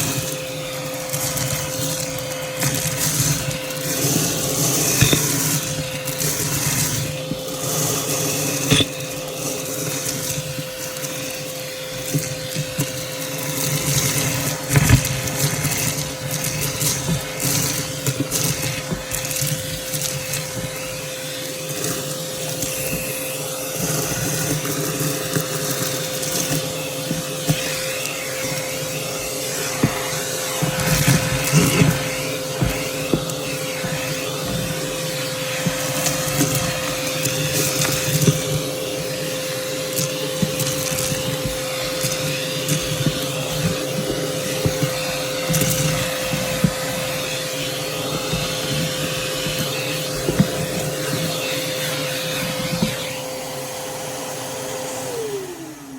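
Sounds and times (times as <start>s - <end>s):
debris crackling in vacuum brush: 0.0s - 53.2s
vacuum cleaner motor whine: 0.0s - 55.9s.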